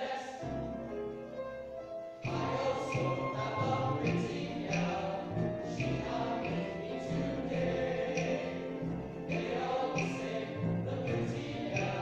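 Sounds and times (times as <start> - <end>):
men's chorus singing: 0.0 - 0.4, 2.3 - 12.0.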